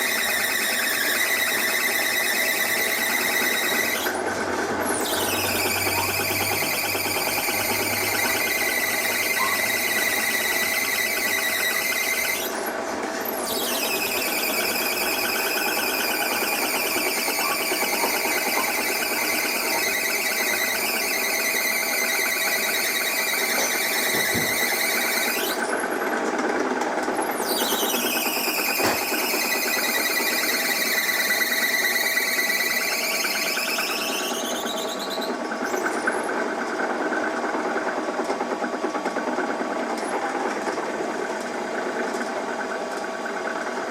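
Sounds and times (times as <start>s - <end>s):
machine squealing whine: 0.0s - 38.8s
dense mechanical running: 0.0s - 43.9s.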